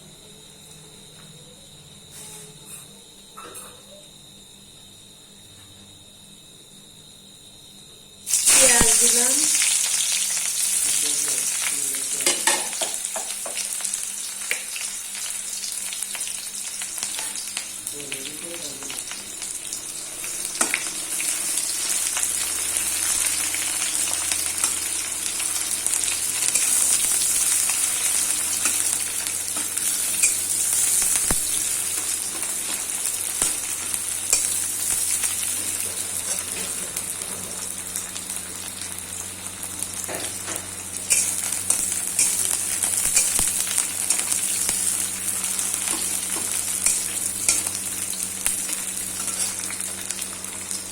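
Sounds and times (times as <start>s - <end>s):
onions sizzling in oil: 8.2s - 50.9s.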